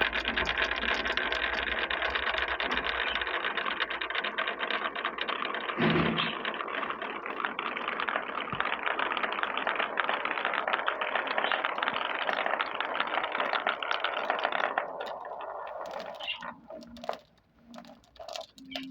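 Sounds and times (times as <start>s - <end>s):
marbles rattling down a marble run: 0.0s - 18.9s.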